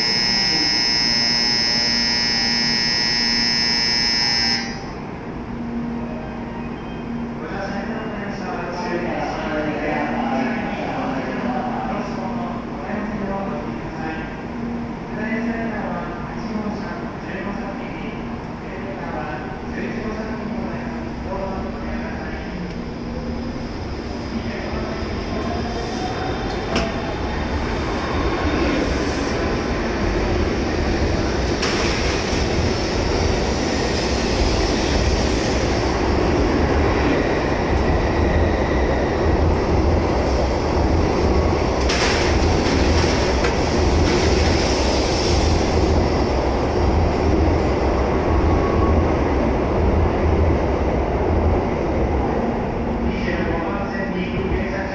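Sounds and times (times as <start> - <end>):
train rolling rumble: 5.0 - 54.9.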